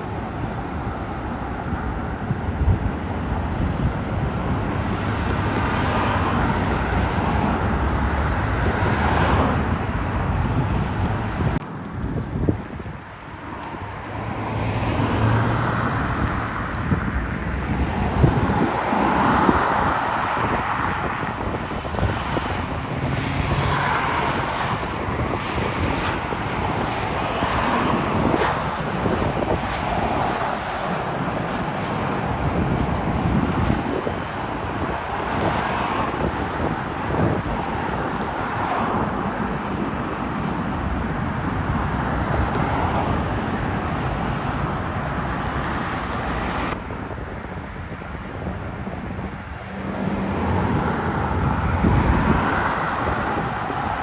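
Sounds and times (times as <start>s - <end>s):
road traffic passing: 0.0s - 54.0s
wind buffeting microphone: 0.0s - 54.0s.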